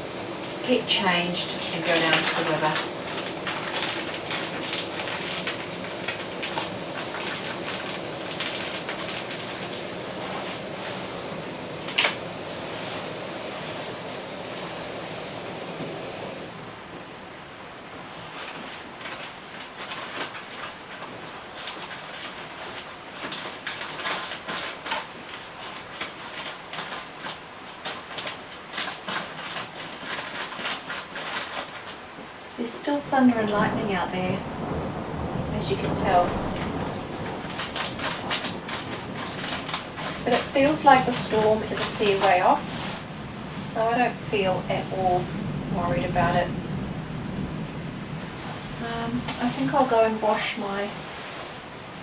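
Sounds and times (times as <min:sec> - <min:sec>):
rain falling: 0:00.0 - 0:52.0.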